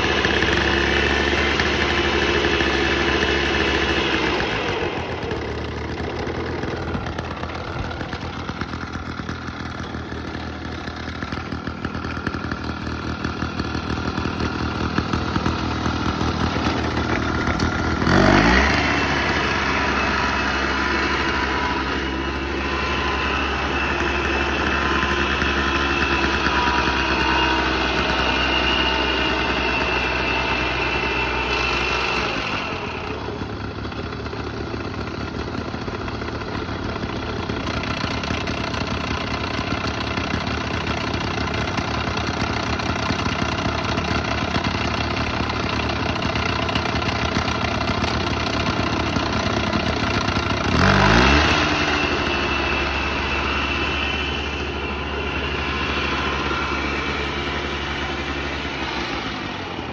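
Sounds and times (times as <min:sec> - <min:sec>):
mower engine idling and revving: 0:00.0 - 0:59.9.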